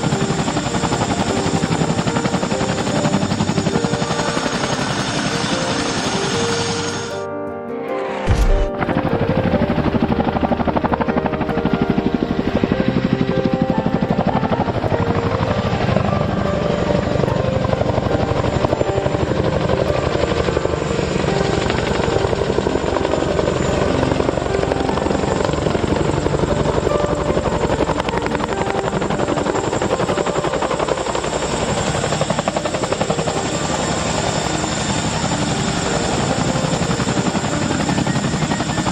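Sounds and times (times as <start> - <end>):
helicopter rotor blades beating: 0.0 - 38.9
high turbine whine: 0.0 - 38.9.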